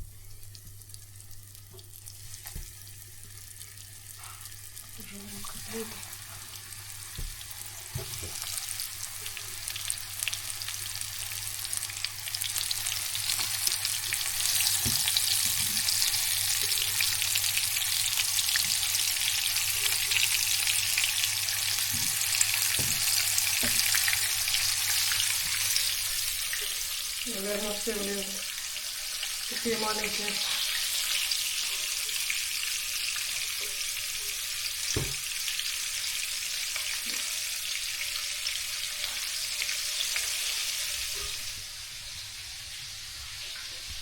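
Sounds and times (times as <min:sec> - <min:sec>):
meat sizzling in hot oil: 0:00.0 - 0:44.0.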